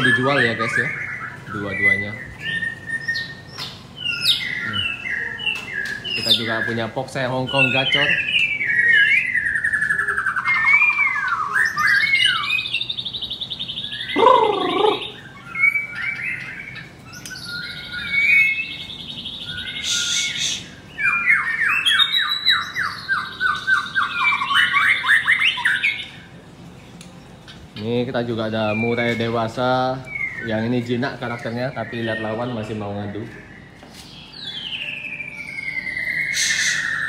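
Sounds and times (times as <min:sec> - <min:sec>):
songbirds singing: 0:00.0 - 0:37.0.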